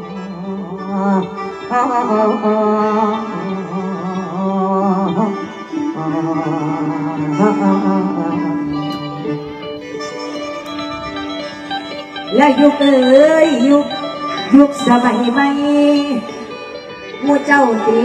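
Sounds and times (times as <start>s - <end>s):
live folk music through speakers: 0.0s - 18.0s.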